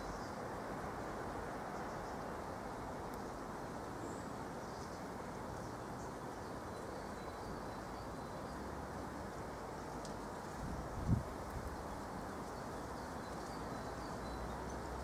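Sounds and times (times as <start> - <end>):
outdoor background noise: 0.0 - 15.0
small birds chirping: 1.0 - 15.0.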